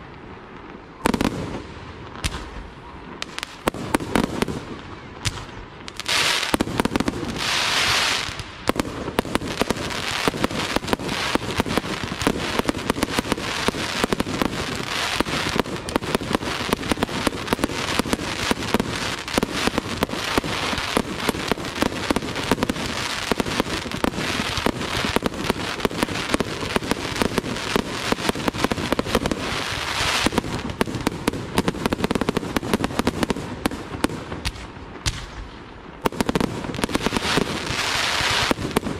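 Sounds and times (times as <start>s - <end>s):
fireworks bangs: 0.0s - 38.9s
fireworks crackle: 0.0s - 38.9s
fireworks hissing: 5.2s - 35.4s, 36.0s - 38.9s.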